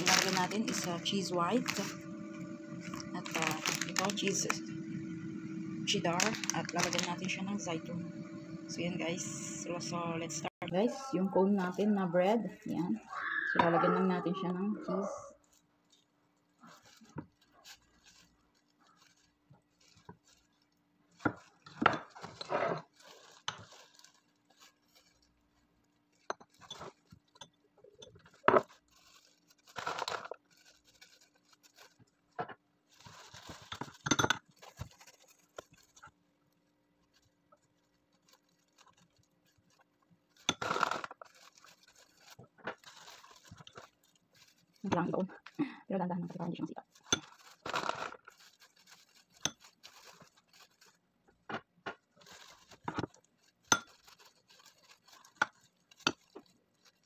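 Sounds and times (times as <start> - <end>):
plastic gloves rustling: 0.0 - 14.7, 15.3 - 57.0.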